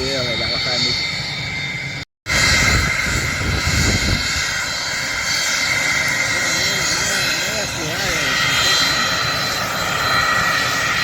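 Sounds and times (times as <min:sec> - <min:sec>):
aircraft engine running: 0:00.0 - 0:11.0.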